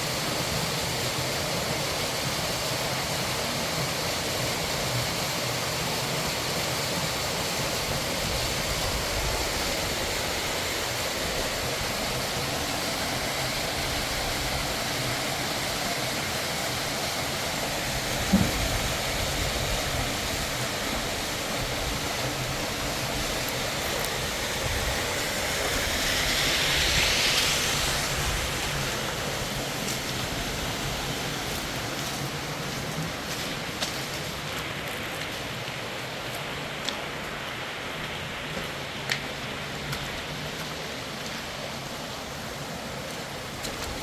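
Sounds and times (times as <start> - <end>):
fast river rushing: 0.0 - 44.0.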